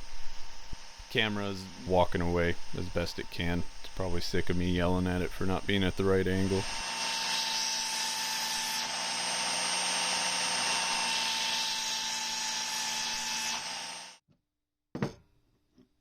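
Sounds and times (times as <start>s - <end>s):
belt sander running: 0.0s - 14.2s.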